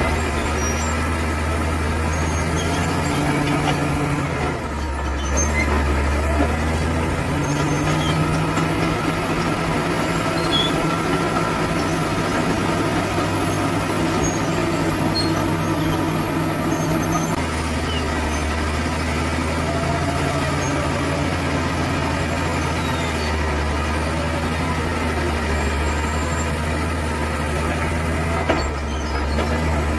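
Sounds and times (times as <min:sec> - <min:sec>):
bulldozer diesel engine running: 0:00.0 - 0:29.9.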